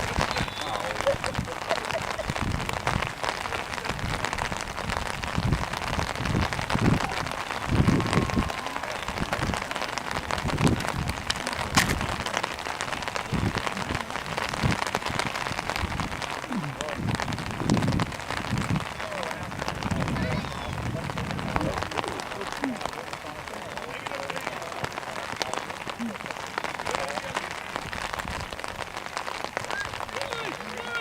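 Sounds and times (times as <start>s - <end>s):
low rumbling gusts: 0.0s - 26.5s
outdoor hiss: 0.0s - 31.0s.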